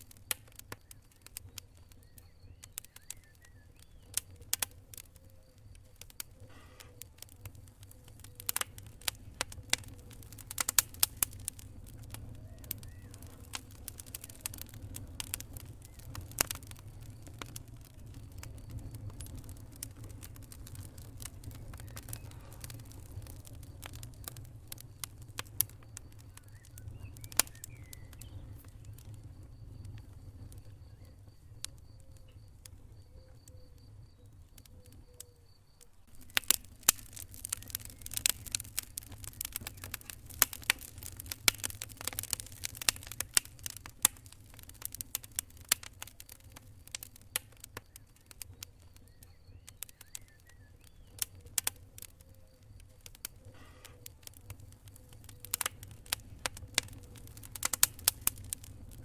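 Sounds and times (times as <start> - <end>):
fire pops and snaps: 0.0 - 59.0
low rumble of fire: 0.0 - 59.0.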